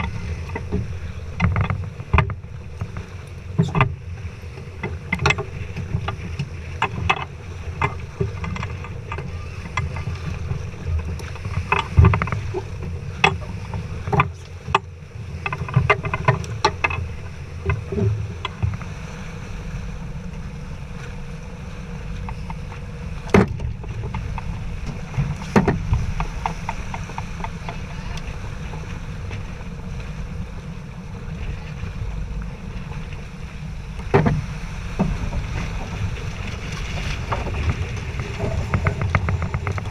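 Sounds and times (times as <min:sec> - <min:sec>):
knocks and clicks of boat gear: 0:00.0 - 0:39.9
wind and water rumble: 0:00.0 - 0:39.9.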